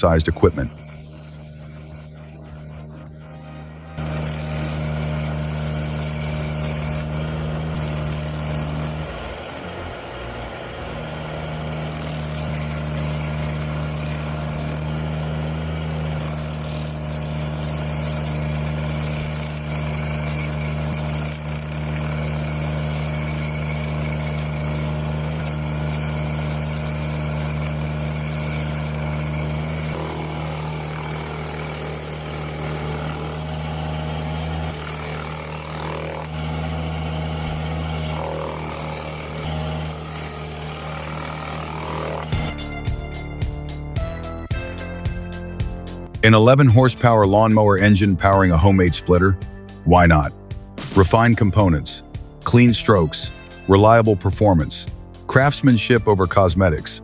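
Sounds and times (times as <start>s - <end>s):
engine humming steadily: 0.0s - 57.0s.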